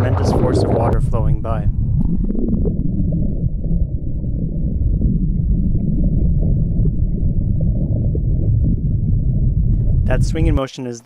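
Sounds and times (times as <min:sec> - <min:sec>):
muffled underwater water rush: 0:00.0 - 0:10.5.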